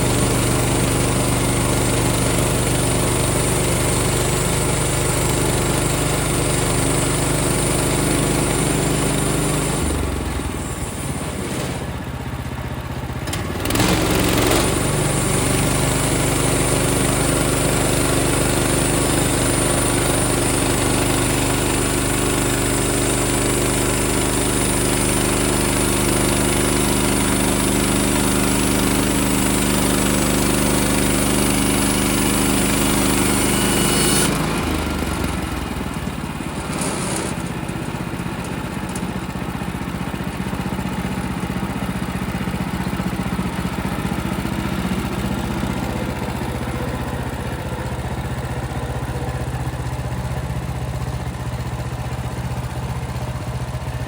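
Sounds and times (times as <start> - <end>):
sawmill gas engine running: 0.0 - 54.0.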